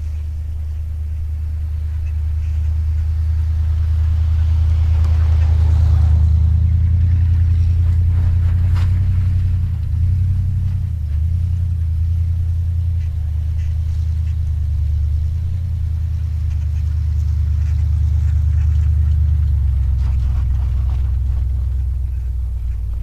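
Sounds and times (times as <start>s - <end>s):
car engine exhaust drone: 0.0s - 23.0s.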